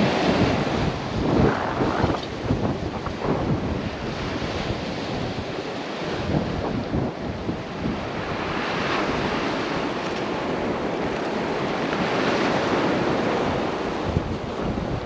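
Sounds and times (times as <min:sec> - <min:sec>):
sea washing on rocky shore: 0:00.0 - 0:15.0
wind buffeting microphone: 0:00.0 - 0:15.0.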